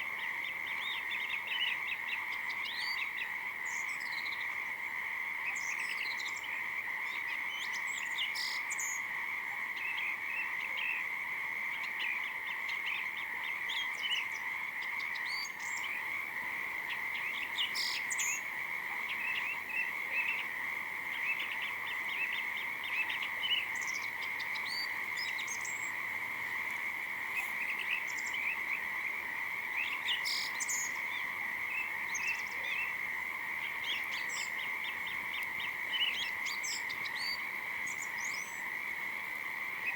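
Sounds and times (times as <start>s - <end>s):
frogs calling: 0.0s - 39.9s.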